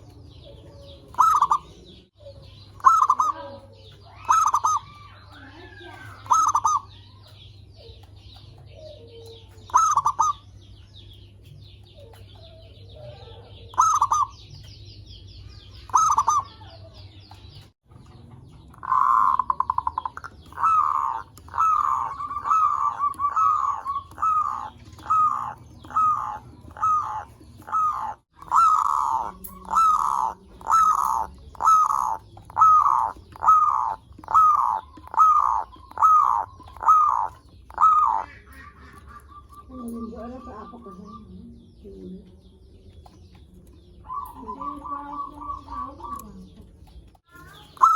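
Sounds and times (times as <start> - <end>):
dove cooing: 0.0 - 14.7, 15.6 - 17.1, 18.5 - 42.3, 43.2 - 47.9.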